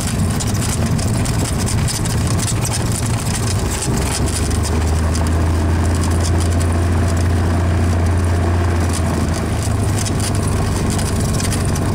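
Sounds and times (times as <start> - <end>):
light rattles: 0.0 - 11.9
propeller plane engine droning: 0.0 - 11.9.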